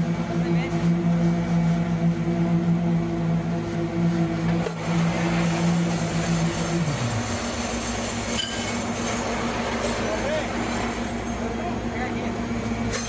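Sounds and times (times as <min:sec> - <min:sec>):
concrete paver machine hum: 0:00.0 - 0:13.0.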